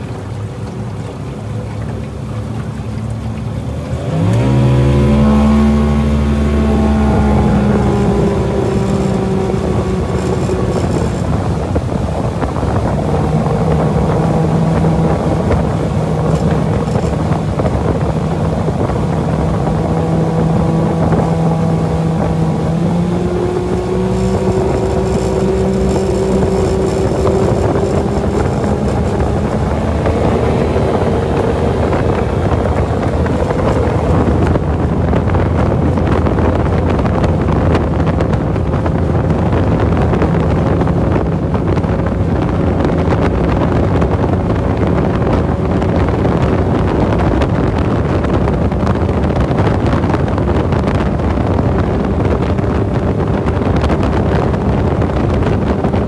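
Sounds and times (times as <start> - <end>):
outboard motor running flat out: 0.0 - 56.0
wind noise on microphone: 0.0 - 56.0.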